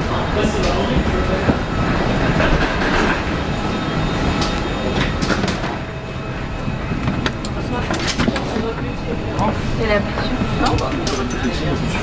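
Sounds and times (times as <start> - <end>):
aircraft auxiliary power unit rumble: 0.0 - 12.0.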